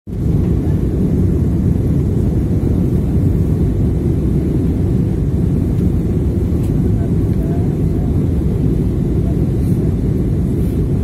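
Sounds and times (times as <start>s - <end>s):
airliner cabin engine roar: 0.1s - 11.0s.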